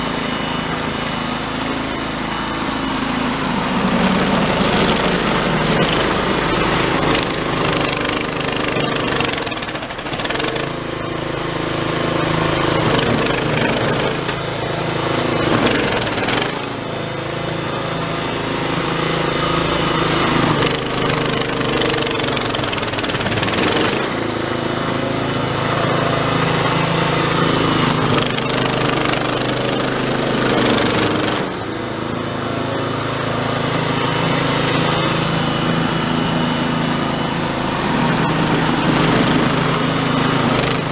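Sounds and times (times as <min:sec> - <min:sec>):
snowblower running under load: 0:00.0 - 0:40.9.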